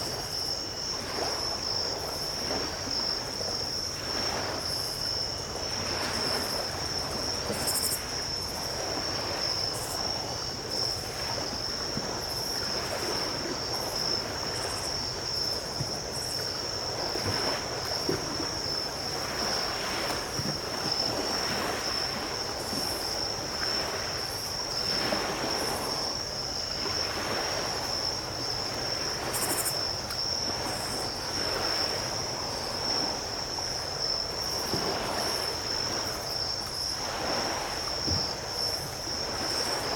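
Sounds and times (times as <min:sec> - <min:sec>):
crickets chirping: 0:00.0 - 0:39.9
small waves washing onto beach: 0:00.0 - 0:39.9.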